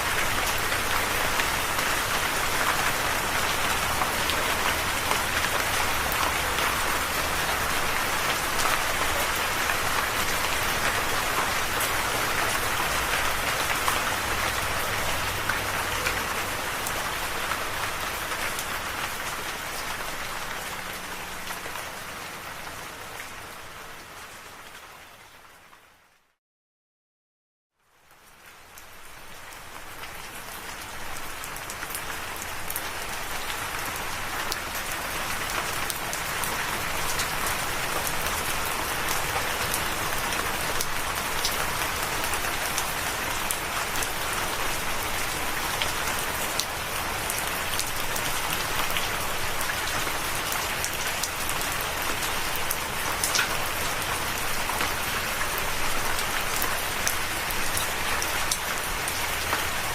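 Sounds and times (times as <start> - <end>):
steady rain falling: 0.0 - 26.4, 27.8 - 59.9.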